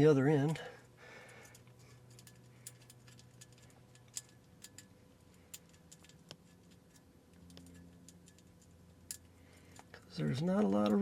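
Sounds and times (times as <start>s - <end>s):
small metal clicks and taps: 1.4s - 11.0s.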